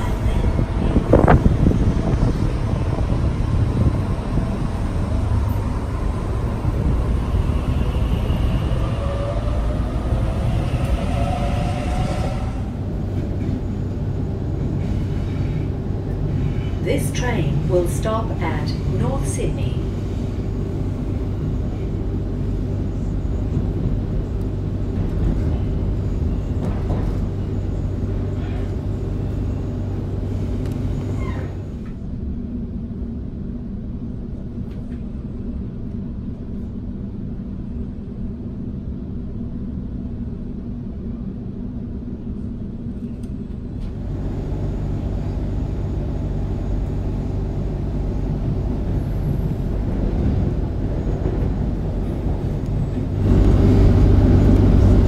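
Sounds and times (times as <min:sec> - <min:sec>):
electric train running rumble: 0:00.0 - 0:55.0.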